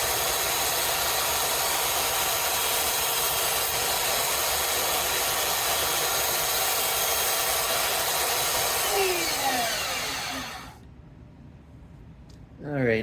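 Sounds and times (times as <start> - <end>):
electric knife sharpener grinding: 0.0 - 10.8
motor spinning down: 0.0 - 10.8.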